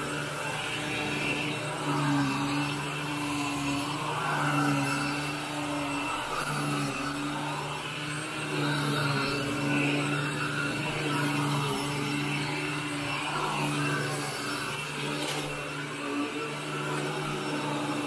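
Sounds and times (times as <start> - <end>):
vacuum cleaner on carpet: 0.0 - 18.0.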